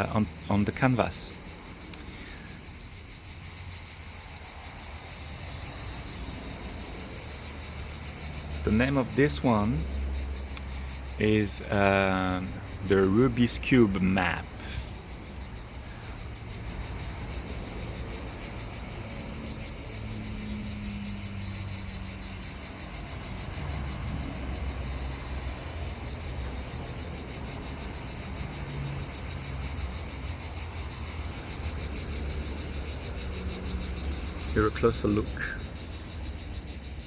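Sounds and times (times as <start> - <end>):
insects chirring: 0.0 - 37.0.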